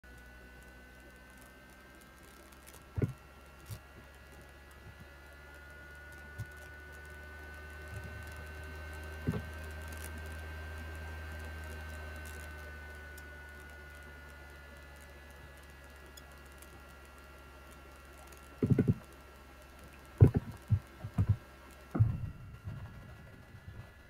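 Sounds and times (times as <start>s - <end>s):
faint high whine: 0.0s - 24.0s
low electrical hum: 0.0s - 24.0s.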